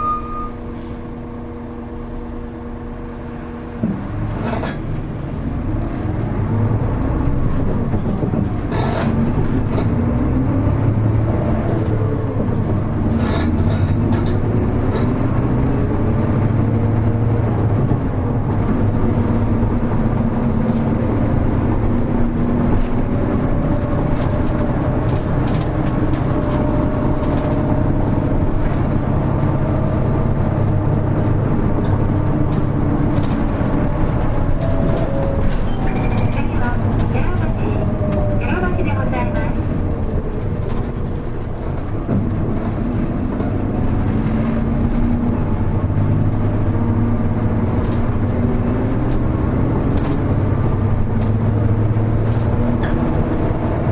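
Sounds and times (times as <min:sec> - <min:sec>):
bus diesel engine: 0:00.0 - 0:53.9
road noise: 0:00.0 - 0:53.9.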